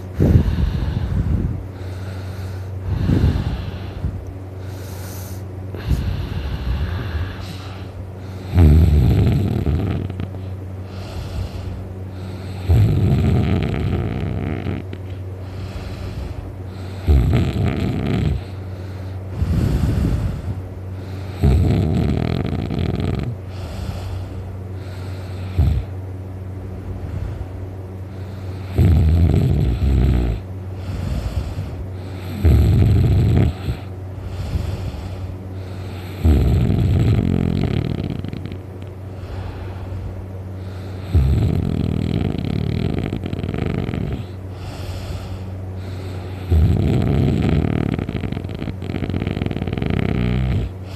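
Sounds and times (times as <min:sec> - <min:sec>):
person snoring loudly: 0:00.0 - 0:25.9, 0:28.2 - 0:38.6, 0:40.6 - 0:50.9.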